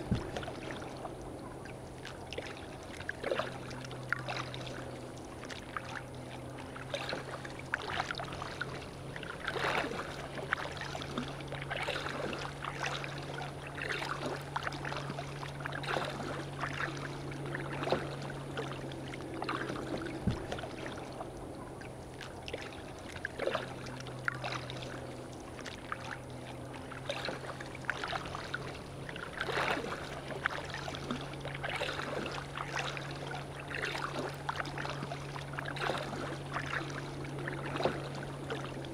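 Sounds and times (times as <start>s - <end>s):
paddle splashing water: 0.0s - 38.9s
steady low hum: 0.0s - 38.9s
water lapping at hull: 0.0s - 38.9s.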